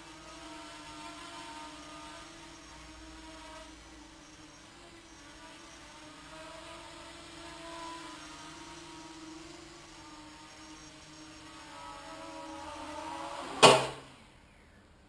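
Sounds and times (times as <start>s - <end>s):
quadcopter motors buzzing: 0.0s - 14.5s.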